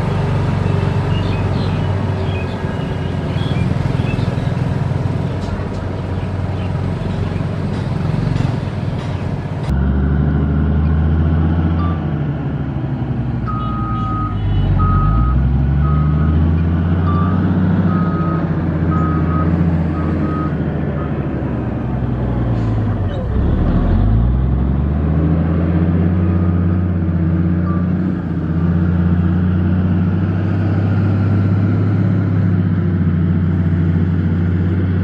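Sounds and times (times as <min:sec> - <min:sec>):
diesel engine running under load: 0:00.0 - 0:35.0.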